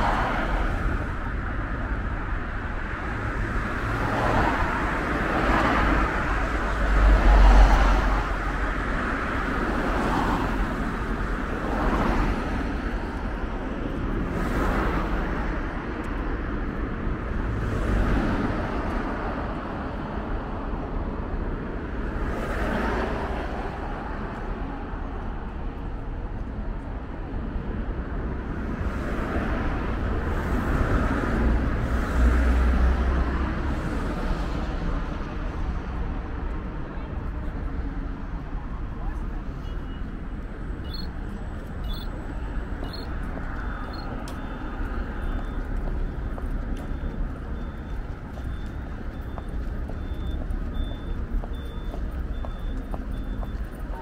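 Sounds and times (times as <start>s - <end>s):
road traffic hum: 0.0s - 54.0s
vehicles passing close: 0.0s - 54.0s.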